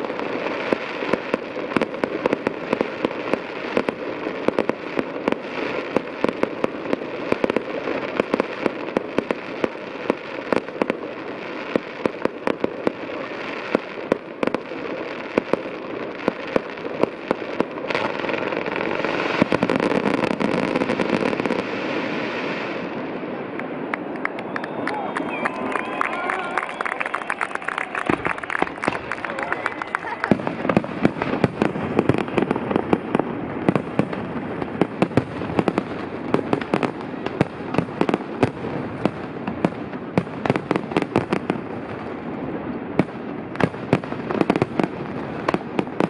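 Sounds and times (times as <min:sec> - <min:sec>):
fireworks bangs and crackling: 0:00.0 - 0:46.0.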